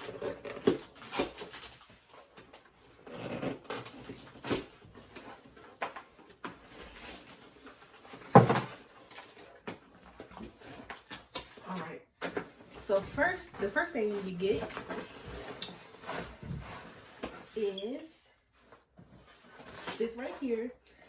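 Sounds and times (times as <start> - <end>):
cardboard box being opened: 0.0 - 17.6.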